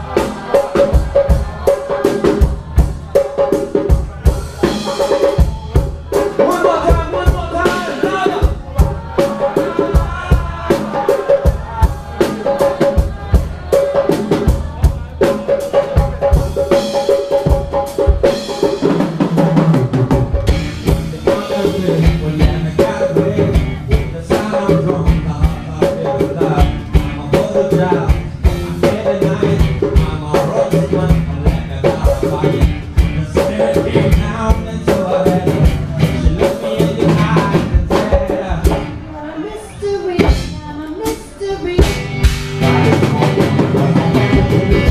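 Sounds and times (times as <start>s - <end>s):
bass line: 0.0s - 44.9s
drum kit groove: 0.0s - 44.9s
live band playing: 0.0s - 44.9s.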